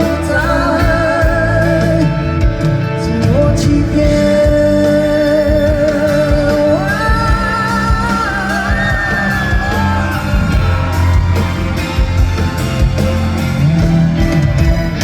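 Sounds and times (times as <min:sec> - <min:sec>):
pop-rock band playing: 0:00.0 - 0:15.0.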